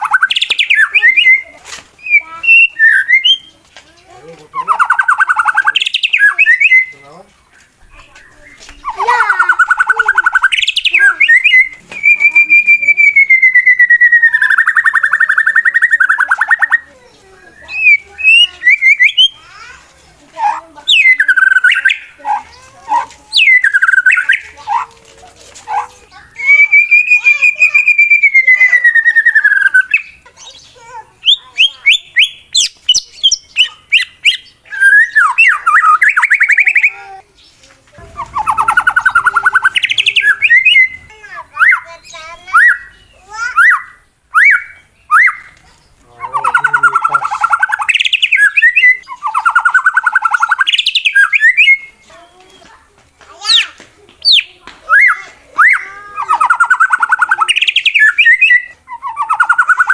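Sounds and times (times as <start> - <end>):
bird singing whistles and trills: 0.0 - 3.6, 4.6 - 16.9, 17.5 - 19.4, 20.9 - 22.2, 23.3 - 24.6, 25.8 - 37.0, 38.0 - 45.6, 46.2 - 52.7, 53.4 - 59.9.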